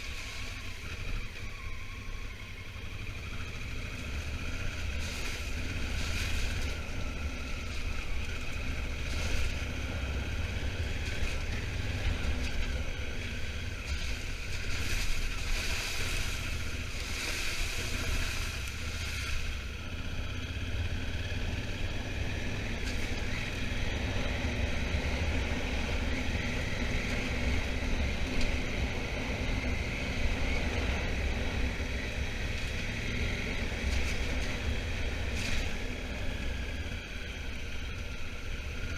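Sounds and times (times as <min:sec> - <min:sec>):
motorcycle engine rumble: 0:00.0 - 0:38.9.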